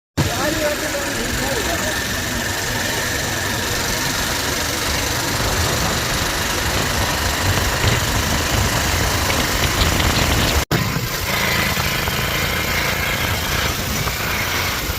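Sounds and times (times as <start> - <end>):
motorcycle engine running: 0.2 - 14.9.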